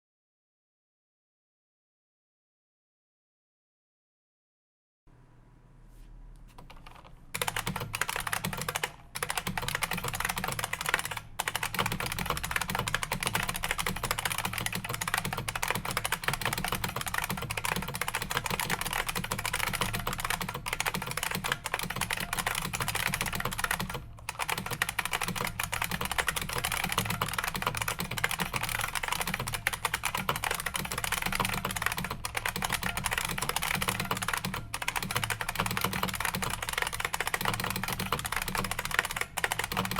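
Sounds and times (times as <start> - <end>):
mechanical keyboard typing: 6.5 - 39.9.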